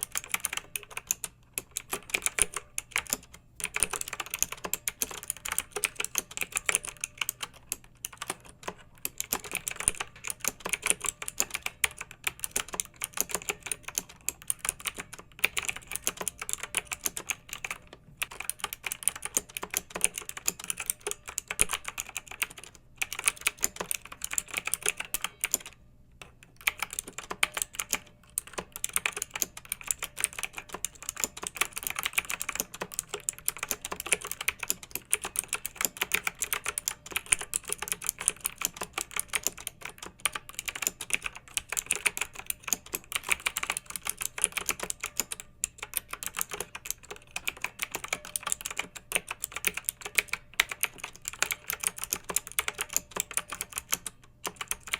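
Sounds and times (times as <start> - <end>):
mechanical keyboard typing: 0.0 - 54.9.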